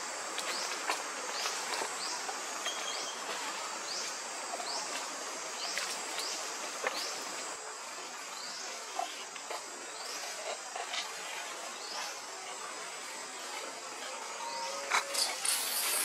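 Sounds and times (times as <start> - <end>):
insect hiss: 0.0 - 16.0.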